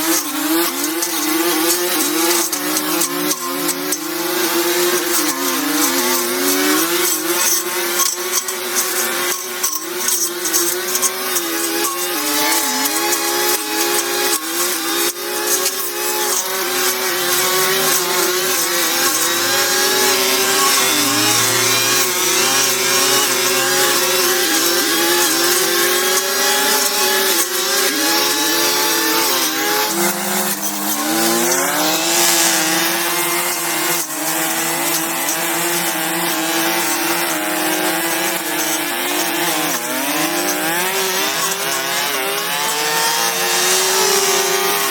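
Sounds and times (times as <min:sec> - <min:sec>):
small power tool motor whining: 0:00.0 - 0:44.9.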